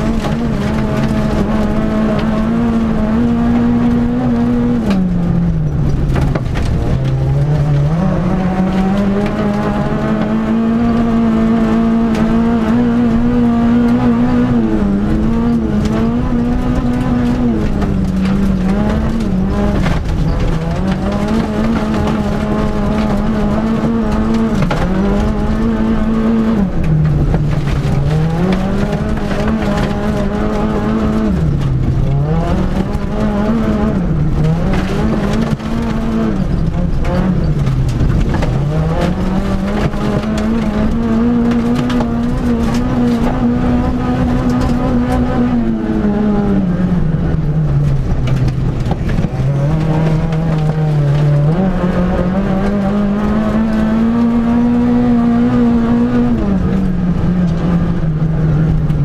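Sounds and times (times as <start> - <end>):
car engine revving hard: 0.0 - 59.0
tyres on dirt: 0.0 - 59.0.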